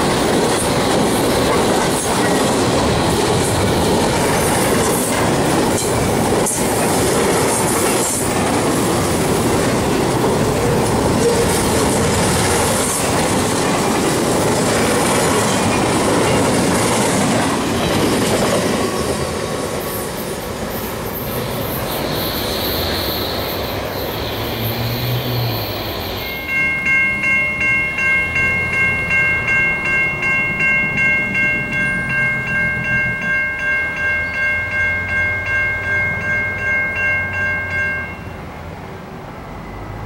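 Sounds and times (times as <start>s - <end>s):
crossing bell dinging: 0.0s - 19.3s, 25.5s - 40.0s
freight train wheels on rails: 0.0s - 40.0s.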